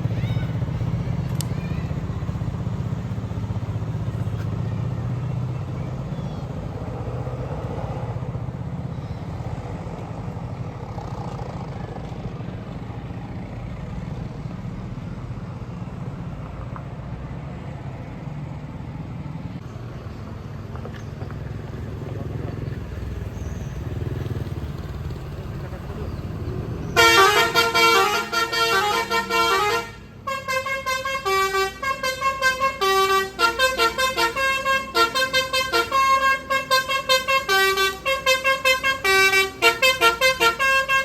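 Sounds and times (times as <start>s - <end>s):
traffic engines rumbling: 0.0s - 41.0s.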